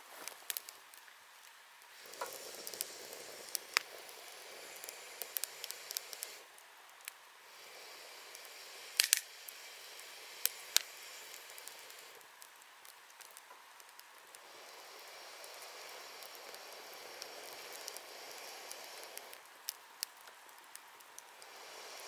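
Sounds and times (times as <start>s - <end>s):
campfire crackling and popping: 0.0s - 22.0s
steady hiss: 0.0s - 22.0s.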